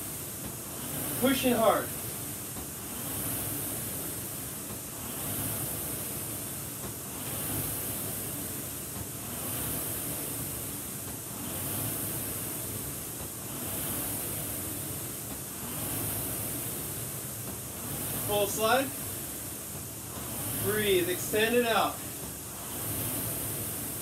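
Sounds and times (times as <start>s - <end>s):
rowing machine flywheel whirring: 0.0s - 24.0s.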